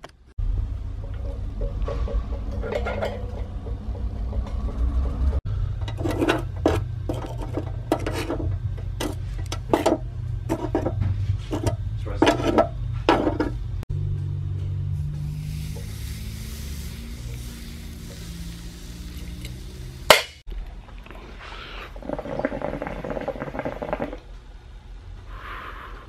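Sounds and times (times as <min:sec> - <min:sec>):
steady low hum: 0:00.4 - 0:26.0.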